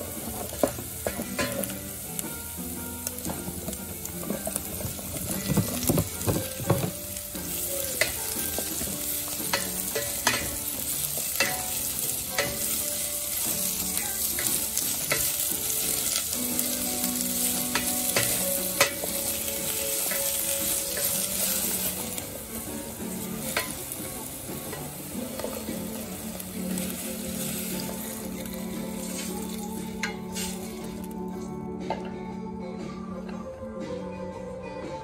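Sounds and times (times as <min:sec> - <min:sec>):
greens sizzling in hot oil: 0:00.0 - 0:31.4.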